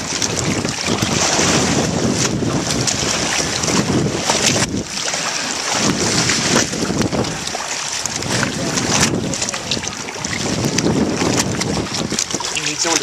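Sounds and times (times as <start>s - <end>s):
water rushing along boat hull: 0.0s - 13.0s
wind buffeting microphone: 0.0s - 13.0s.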